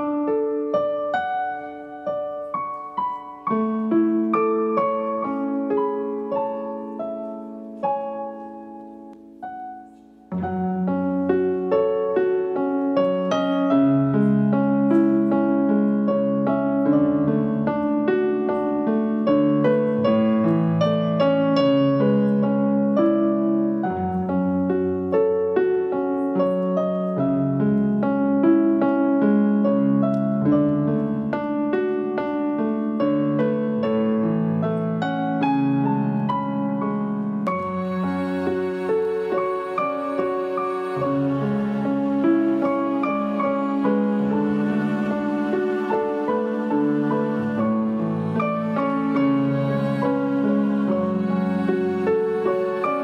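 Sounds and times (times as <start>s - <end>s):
piano music: 0.0s - 53.0s.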